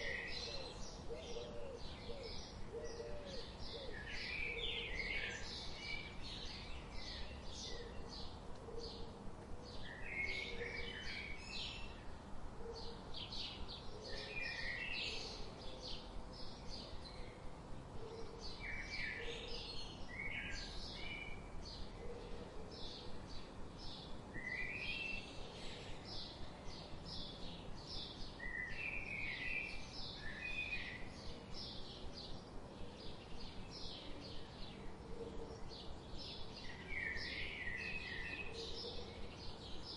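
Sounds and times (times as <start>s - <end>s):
lower bird song phrase: 0.0s - 12.1s, 18.2s - 39.9s
songbirds chirping: 0.0s - 39.9s.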